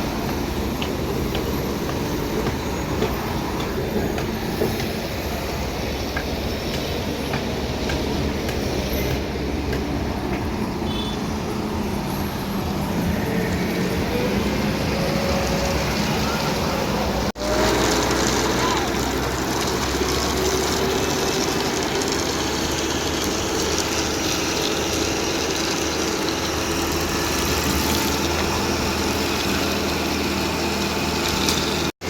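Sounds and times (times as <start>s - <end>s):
heavy machinery rumble: 0.0s - 31.9s.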